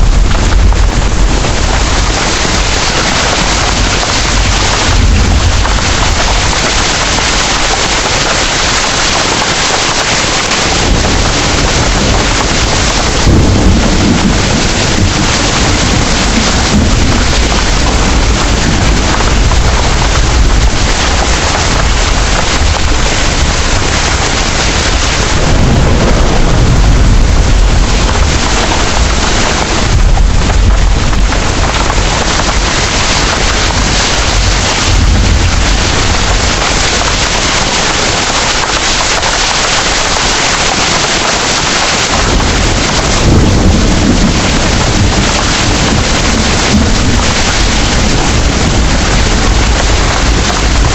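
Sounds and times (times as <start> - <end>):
heavy rain: 0.0 - 50.9
low rolling thunder: 0.0 - 50.9.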